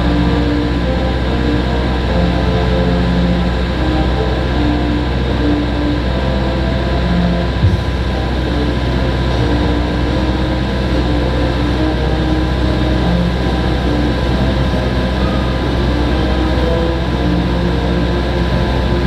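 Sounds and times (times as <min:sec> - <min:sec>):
turboprop aircraft drone: 0:00.0 - 0:19.0.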